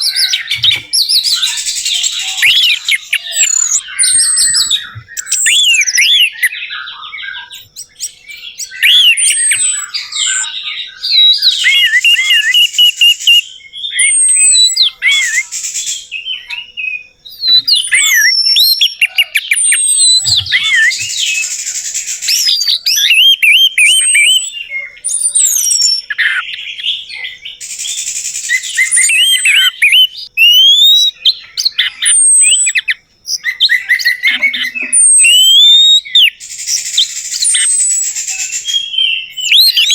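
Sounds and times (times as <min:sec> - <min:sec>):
thrush singing whistled notes: 0:00.0 - 0:39.9.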